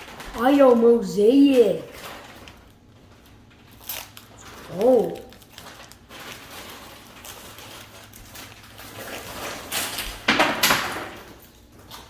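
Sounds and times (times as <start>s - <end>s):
cards rustling: 0.0s - 10.0s.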